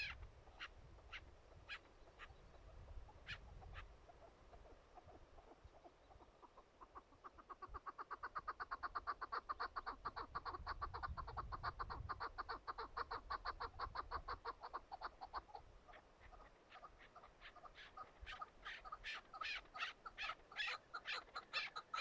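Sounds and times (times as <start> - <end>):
partridge clucking calls: 0.0 - 22.0.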